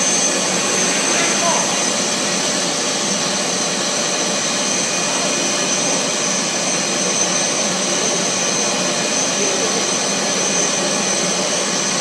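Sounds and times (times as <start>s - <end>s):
machine running with high whine: 0.0s - 12.0s.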